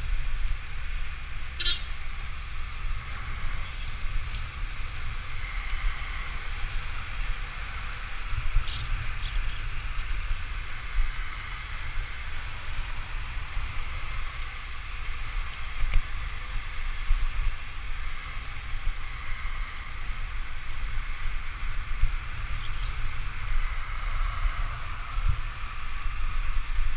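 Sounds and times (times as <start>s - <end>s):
road noise hiss: 0.0s - 26.9s
wind buffeting microphone: 0.0s - 26.9s.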